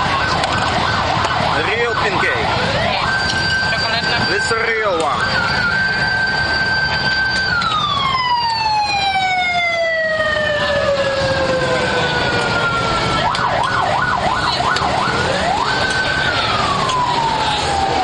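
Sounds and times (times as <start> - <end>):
siren sliding and warbling: 0.0 - 18.0
street noise: 0.0 - 18.0.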